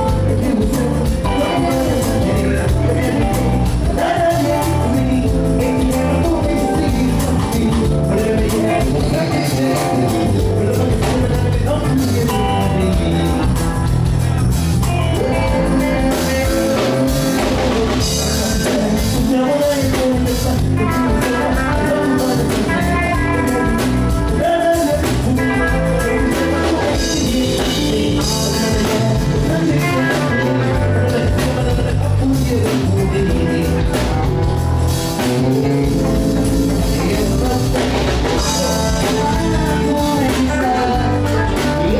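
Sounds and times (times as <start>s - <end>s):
band playing loud music: 0.0s - 41.9s
person singing: 0.0s - 41.9s.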